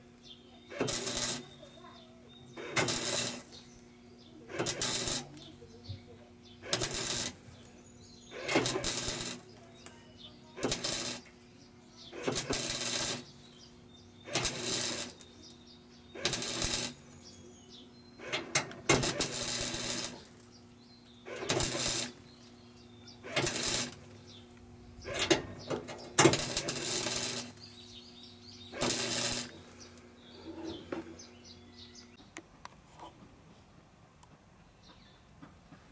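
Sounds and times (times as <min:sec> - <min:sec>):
welder crackling bursts: 0:00.0 - 0:30.3
steady hum: 0:00.0 - 0:32.2.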